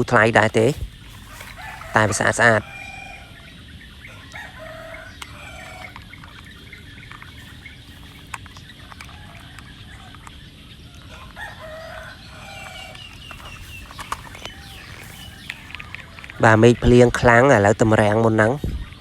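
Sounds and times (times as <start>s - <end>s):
chickens clucking: 0.0s - 17.6s.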